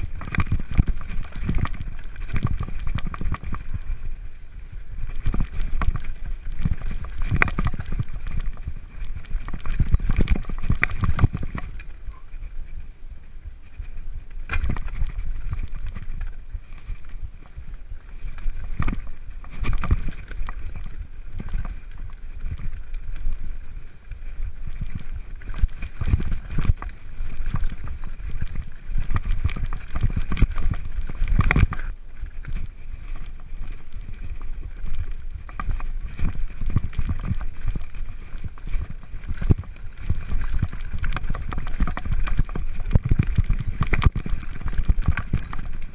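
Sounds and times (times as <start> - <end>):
bike frame knocks and rattles: 0.0 - 4.2, 4.9 - 12.3, 14.4 - 17.0, 18.2 - 23.6, 24.7 - 45.9
bike tyres crunching over stones: 0.0 - 45.9
constant low rumble: 0.0 - 45.9.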